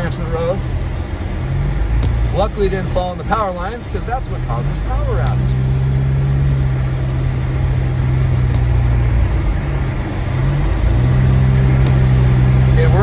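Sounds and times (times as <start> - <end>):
car engine running: 0.0 - 13.0
tyres on snowy road: 0.0 - 13.0.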